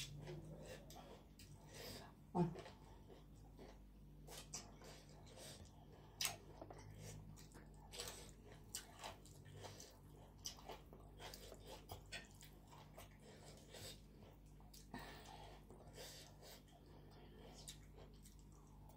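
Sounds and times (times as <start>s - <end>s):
person chewing food: 0.0s - 18.9s.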